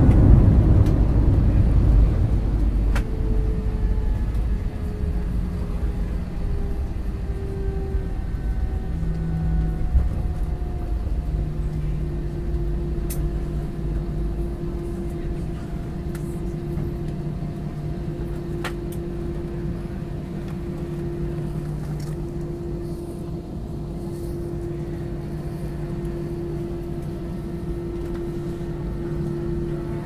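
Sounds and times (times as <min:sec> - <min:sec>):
constant cabin hum: 0:00.0 - 0:30.0
engines and wheels rumbling: 0:00.0 - 0:30.0.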